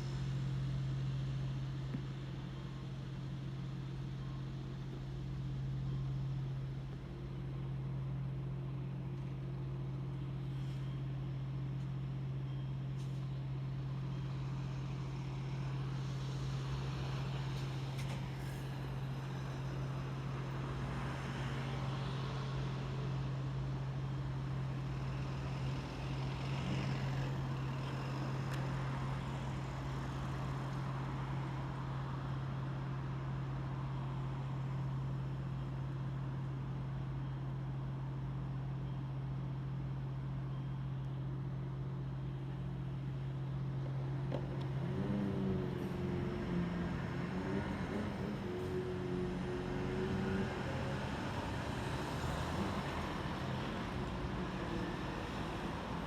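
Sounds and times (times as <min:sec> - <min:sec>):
city traffic: 0:00.0 - 0:56.0.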